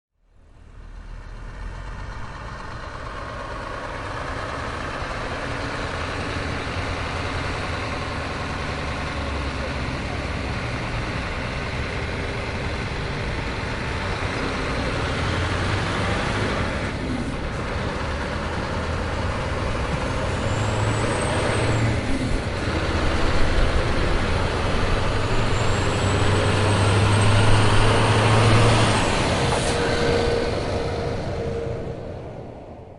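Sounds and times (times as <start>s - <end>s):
heavy trucks passing: 0.2s - 32.9s.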